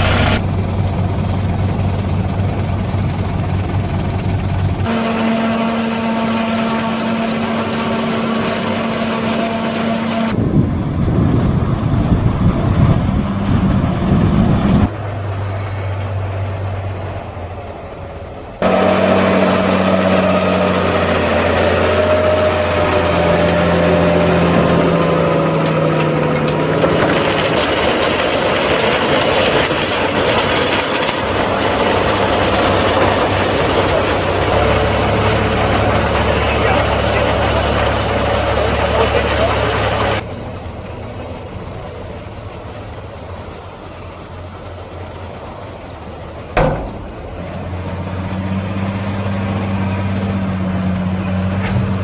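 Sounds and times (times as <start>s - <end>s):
wagon unloading chopped maize: 0.0s - 10.3s, 18.6s - 52.0s
tractor diesel engines running: 0.0s - 52.0s.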